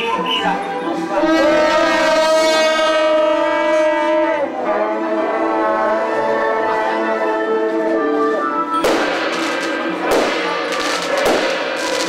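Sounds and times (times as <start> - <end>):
suona horns playing held notes: 0.0 - 12.0.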